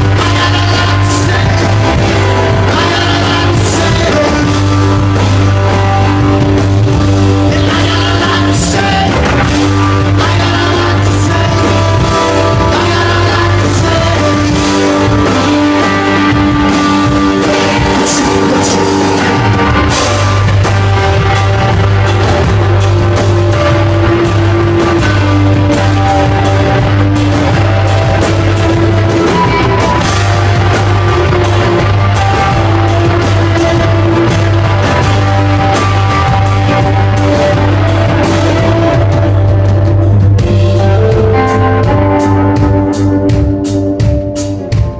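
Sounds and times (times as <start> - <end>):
drum and cymbal hits: 0.0 - 44.9
rock band playing live: 0.0 - 44.9.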